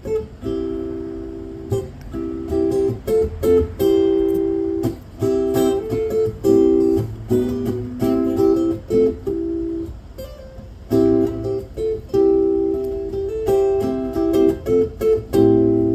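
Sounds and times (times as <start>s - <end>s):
strummed acoustic string instrument: 0.2s - 15.9s.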